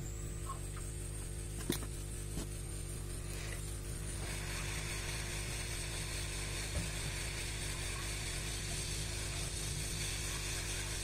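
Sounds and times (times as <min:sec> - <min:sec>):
hot-air gun hissing: 0:00.0 - 0:11.0
low constant hum: 0:00.0 - 0:11.0.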